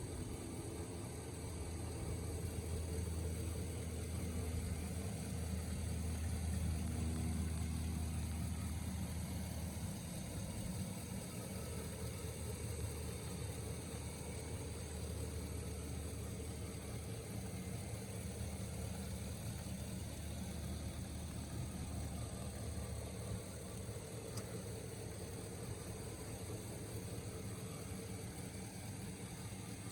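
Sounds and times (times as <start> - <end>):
pickup engine idling: 0.0 - 29.9.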